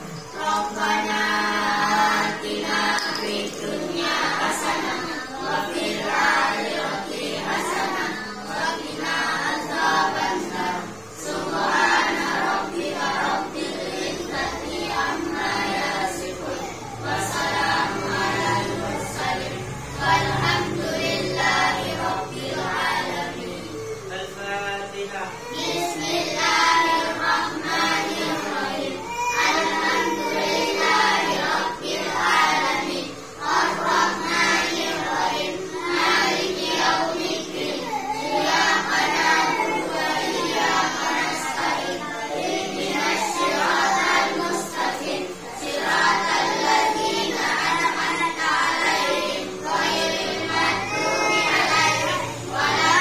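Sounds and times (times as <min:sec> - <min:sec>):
children chanting in unison: 0:00.0 - 0:24.4, 0:25.2 - 0:53.0.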